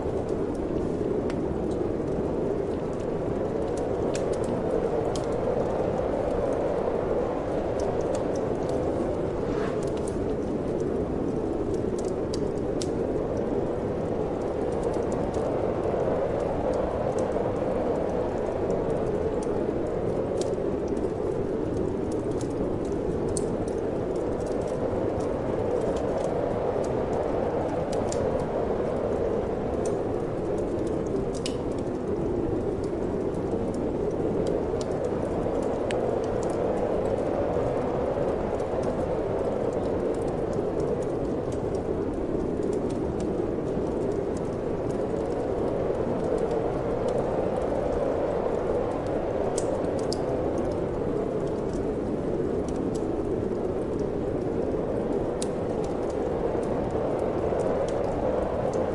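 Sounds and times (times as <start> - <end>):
steady wind: 0.0 - 58.9
wood fire crackling: 0.0 - 58.9.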